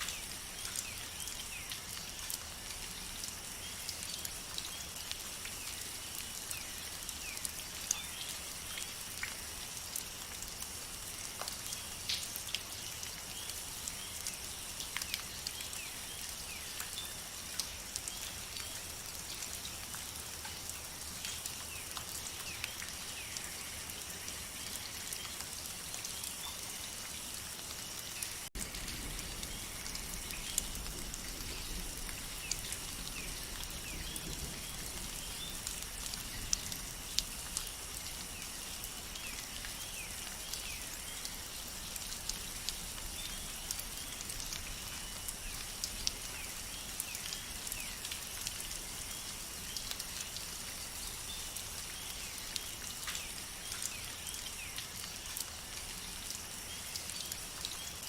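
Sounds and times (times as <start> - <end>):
rain pattering in forest: 0.0 - 58.0.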